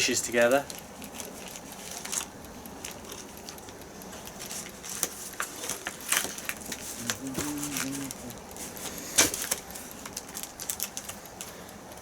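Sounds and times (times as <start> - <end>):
packaging clicks and crackles: 0.0 - 12.0.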